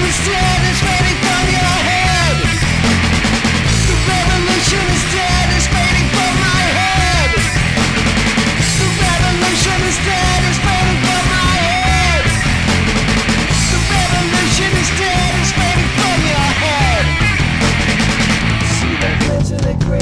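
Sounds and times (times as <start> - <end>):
punk rock band: 0.0 - 20.0.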